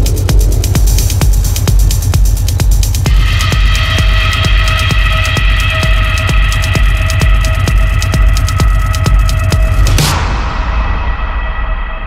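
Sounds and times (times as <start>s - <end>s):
electronic dance music: 0.0s - 10.1s.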